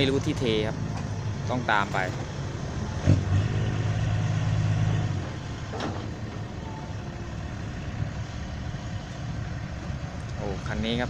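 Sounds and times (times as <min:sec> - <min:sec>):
truck engine running: 0:00.0 - 0:11.0
vehicle noise: 0:00.0 - 0:11.0.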